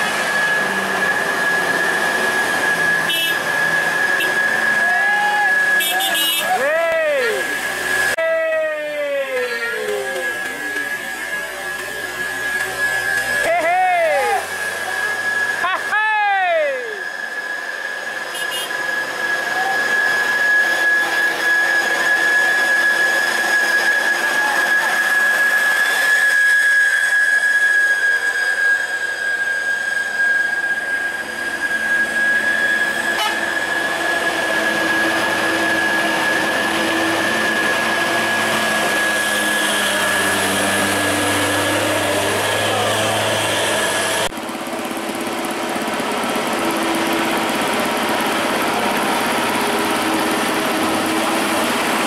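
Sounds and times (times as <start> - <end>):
heavy truck engine labouring: 0.0 - 52.0
steady high-pitched whine: 0.0 - 52.0.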